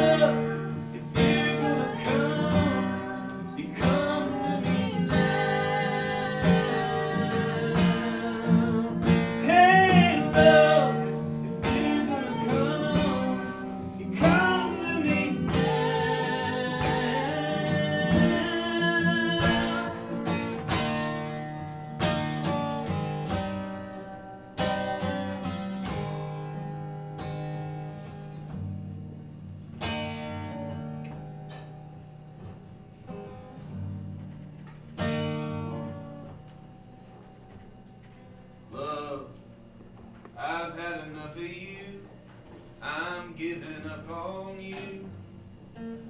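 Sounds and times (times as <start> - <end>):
acoustic guitar strumming: 0.0 - 46.0.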